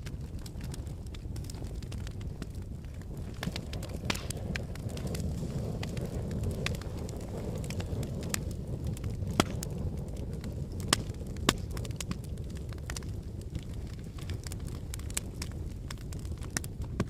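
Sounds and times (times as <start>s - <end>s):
sharp cracks and snaps: 0.0s - 17.0s
volcanic eruption rumble: 0.0s - 17.0s.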